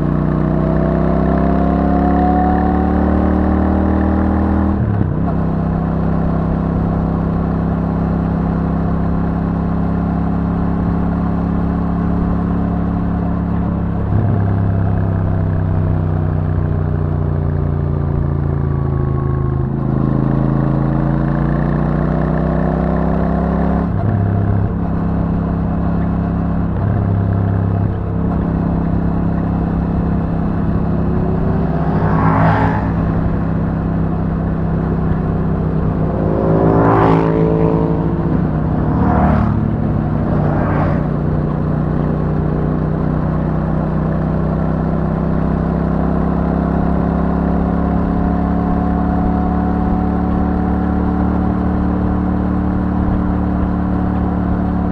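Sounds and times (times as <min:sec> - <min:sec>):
motorcycle engine while riding: 0:00.0 - 0:54.9.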